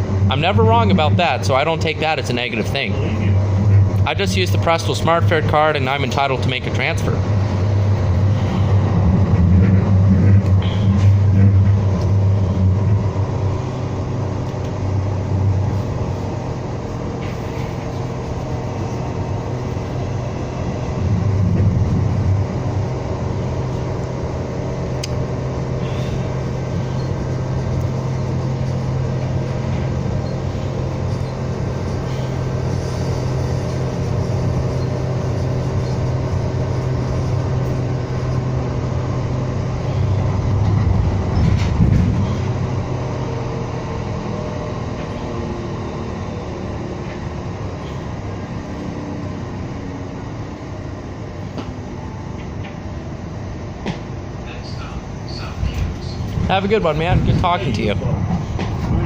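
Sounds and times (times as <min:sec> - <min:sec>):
light rail car rumbling: 0:00.0 - 0:59.0.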